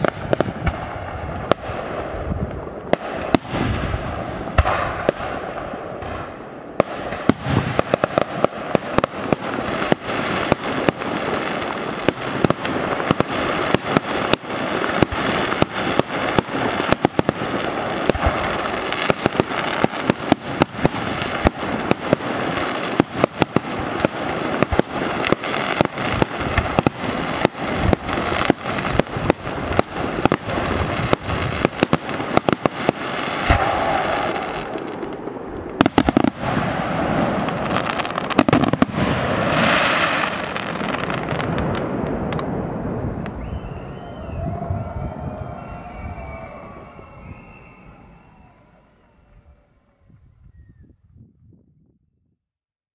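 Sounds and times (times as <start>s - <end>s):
crackling hiss of fireworks: 0.0s - 50.9s.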